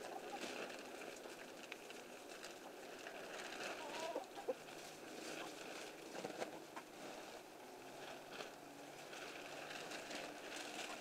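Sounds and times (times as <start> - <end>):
chickens rustling in straw: 0.0 - 11.0.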